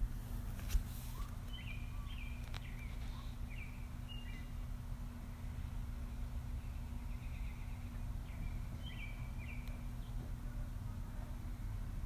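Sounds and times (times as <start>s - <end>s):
steady low hum: 0.0s - 12.0s
birds chirping: 1.0s - 12.0s.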